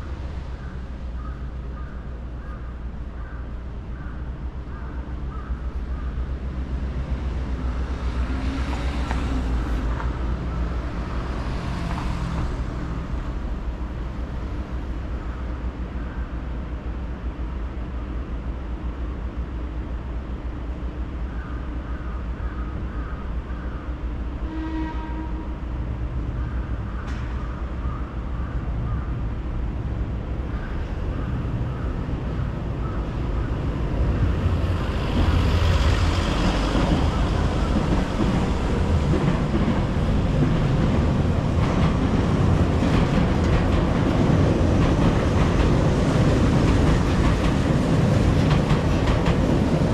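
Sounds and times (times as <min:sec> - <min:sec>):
electric train rumbling: 0:00.0 - 0:49.9.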